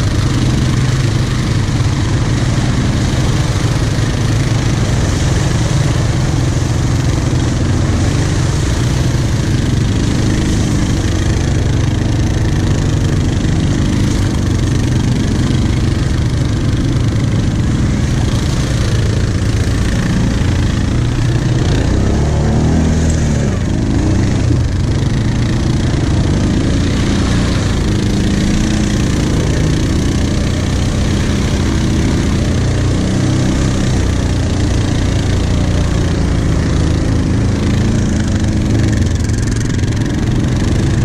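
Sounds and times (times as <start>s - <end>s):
quad engine running at low speed: 0.0s - 41.0s.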